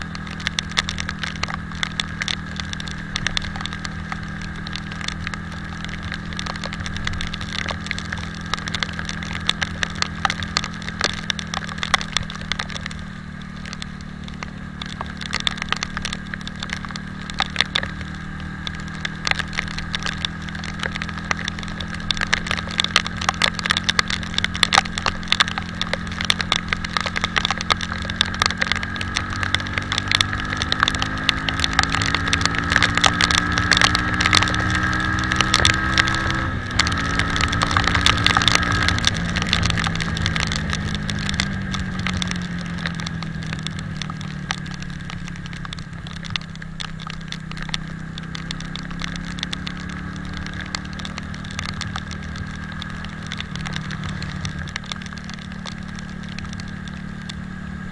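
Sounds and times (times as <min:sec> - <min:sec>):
motorcycle engine accelerating: 0:00.0 - 0:57.9
rain striking camera: 0:00.0 - 0:57.9.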